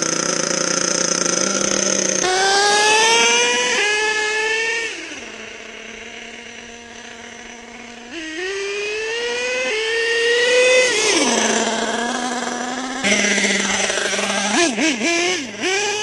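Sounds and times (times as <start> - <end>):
small nitro engine revving: 0.0 - 16.0.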